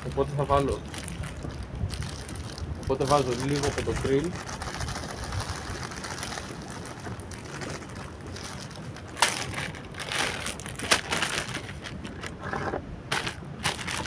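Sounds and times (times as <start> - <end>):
plastic packets crinkling: 0.0 - 12.4, 13.1 - 14.0.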